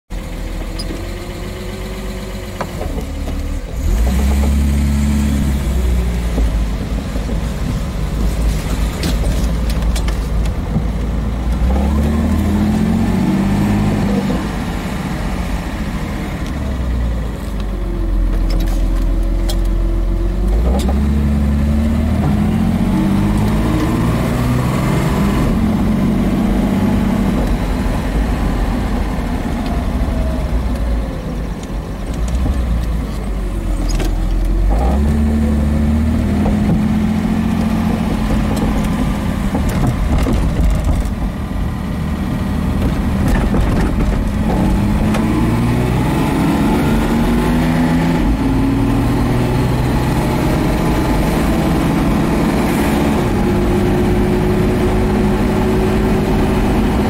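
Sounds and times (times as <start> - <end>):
car engine accelerating: 0.1 - 57.0.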